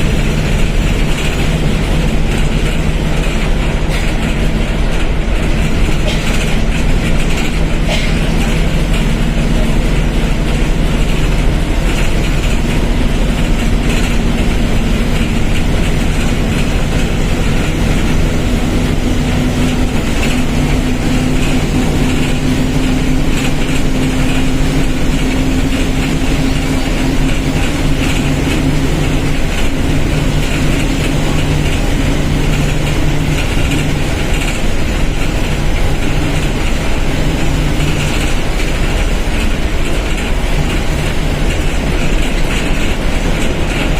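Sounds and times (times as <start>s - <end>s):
bus diesel engine humming: 0.0s - 43.9s.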